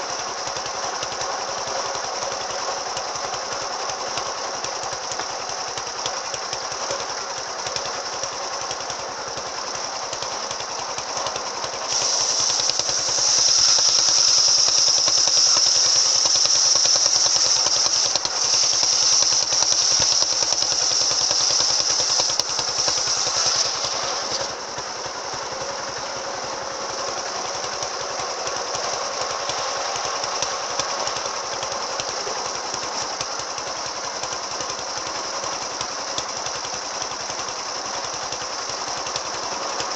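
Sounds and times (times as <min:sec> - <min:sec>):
circular saw cutting wood: 0:01.9 - 0:39.9.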